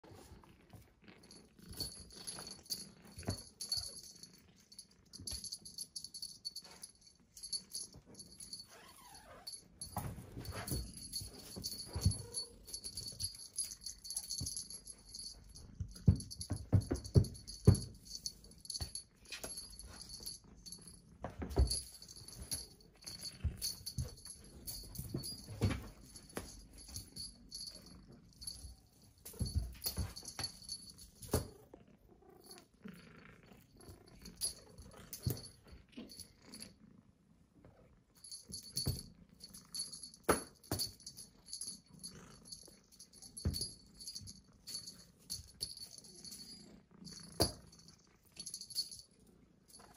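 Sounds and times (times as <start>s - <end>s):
small toy bell jingling: 1.5s - 31.6s, 33.8s - 36.8s, 38.2s - 49.9s.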